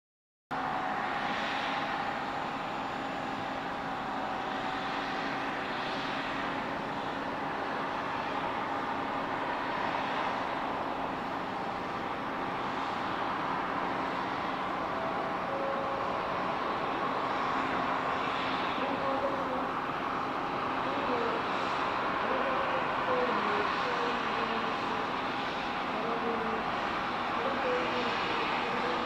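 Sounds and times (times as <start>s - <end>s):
jet engine whine and roar: 0.5s - 29.0s
faint steady tones: 0.6s - 29.0s.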